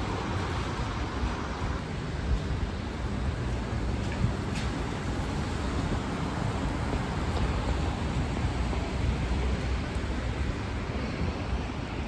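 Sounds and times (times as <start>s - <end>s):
heavy rain on street: 0.0s - 12.0s
low rumble of traffic: 0.0s - 12.0s.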